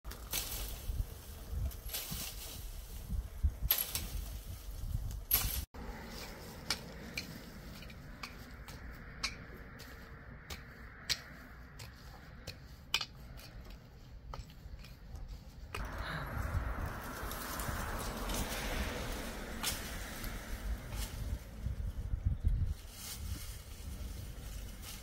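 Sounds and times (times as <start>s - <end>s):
dry vines crackling and rustling: 0.0s - 25.0s
rake scraping stony soil: 0.1s - 25.0s.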